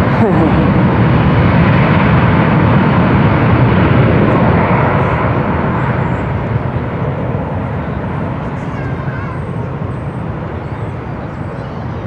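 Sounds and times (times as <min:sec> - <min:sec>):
aircraft engine running: 0:00.0 - 0:12.0.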